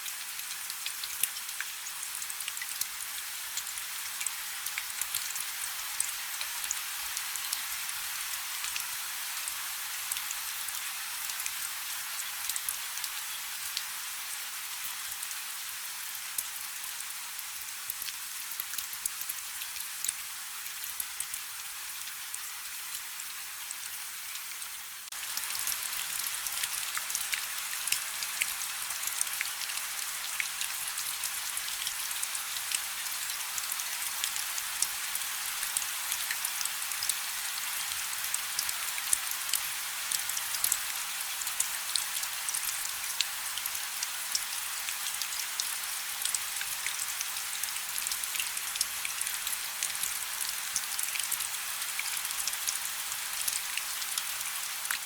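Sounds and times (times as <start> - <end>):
light rain hiss: 0.0 - 55.0.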